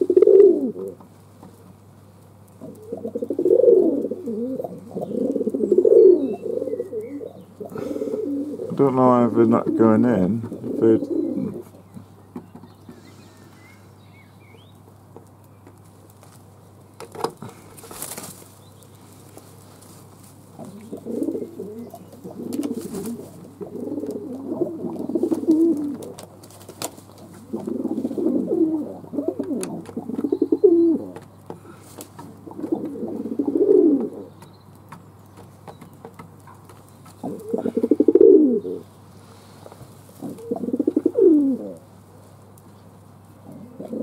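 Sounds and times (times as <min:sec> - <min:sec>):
pigeons cooing: 0:00.0 - 0:15.8, 0:17.3 - 0:44.0.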